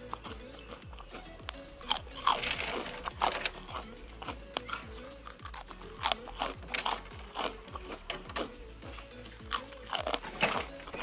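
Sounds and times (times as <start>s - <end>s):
background music with beat: 0.0s - 11.0s
crunching fried snack sticks: 0.0s - 11.0s.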